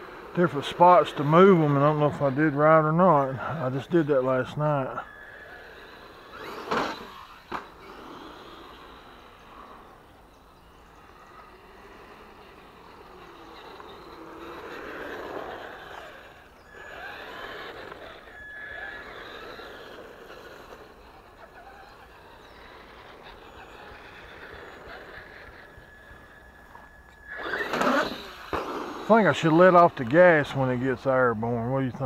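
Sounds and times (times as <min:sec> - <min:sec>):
toy truck electric motor whining: 0:00.0 - 0:30.5.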